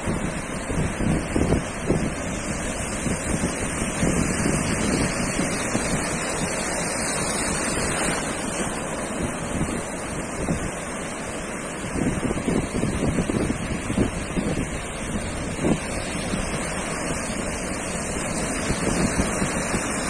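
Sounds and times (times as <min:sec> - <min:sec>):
ocean surf on beach: 0:00.0 - 0:20.0
wind buffeting microphone: 0:00.0 - 0:20.0.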